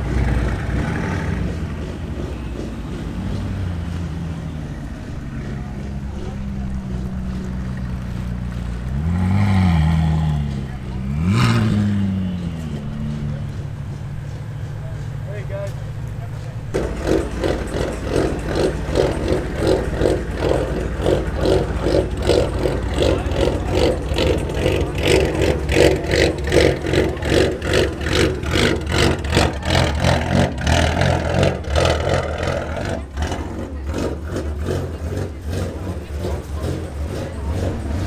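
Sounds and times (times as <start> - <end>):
people talking: 0.0 - 8.6, 10.0 - 38.0
car engine running: 0.0 - 38.0.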